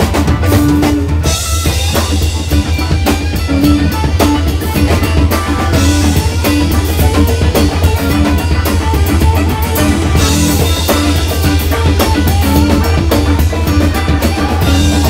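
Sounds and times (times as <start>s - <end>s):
drum kit beat: 0.0s - 15.0s
electric guitars: 0.0s - 15.0s
live band playing: 0.0s - 15.0s.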